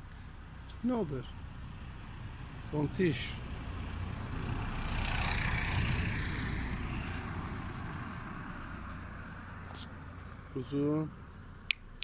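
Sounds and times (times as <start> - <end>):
vehicle engine rumble passing: 0.0 - 12.0.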